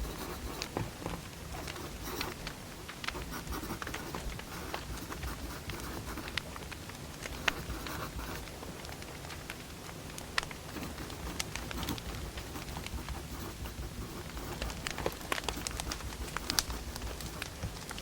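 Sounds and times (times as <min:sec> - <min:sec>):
firewood crackling and popping: 0:00.4 - 0:18.0.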